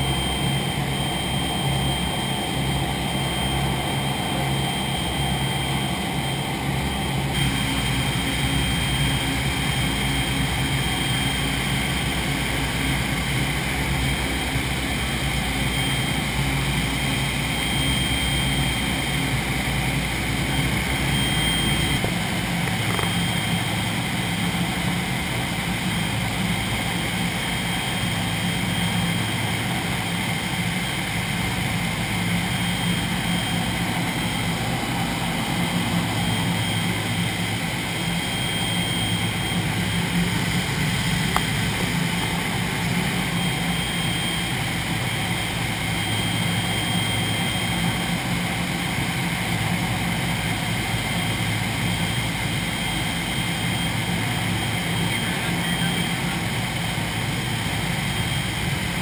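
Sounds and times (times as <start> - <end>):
propeller aircraft engines droning: 0.0 - 59.0.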